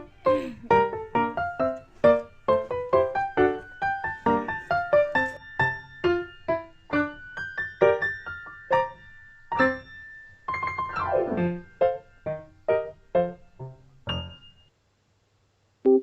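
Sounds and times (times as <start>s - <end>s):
bouncy piano music: 0.0s - 14.7s.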